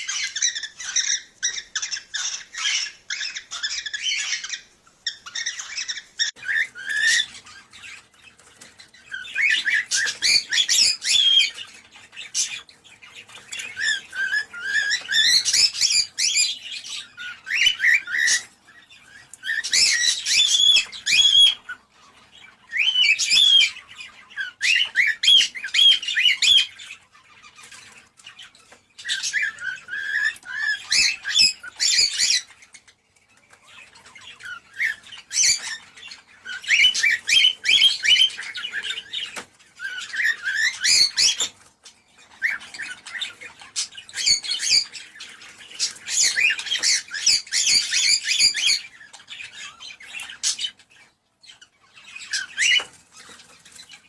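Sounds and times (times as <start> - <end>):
cockatiels chattering and warbling: 0.0 - 54.0.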